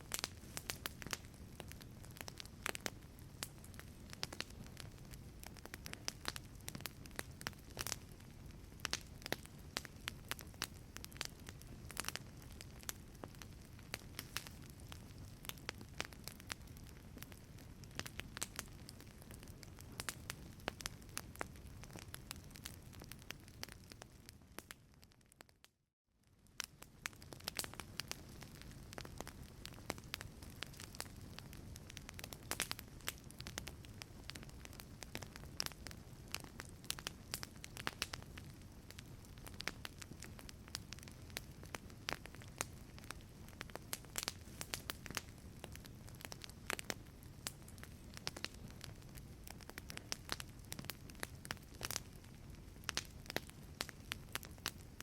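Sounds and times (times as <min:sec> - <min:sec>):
fire low rumble: 0:00.0 - 0:25.4, 0:26.2 - 0:55.0
wood fire crackling and popping: 0:00.0 - 0:55.0.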